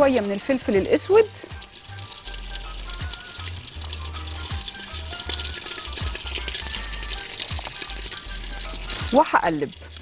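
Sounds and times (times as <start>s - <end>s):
background music with bass: 0.0s - 10.0s
pot simmering with fizzing hiss: 0.0s - 10.0s.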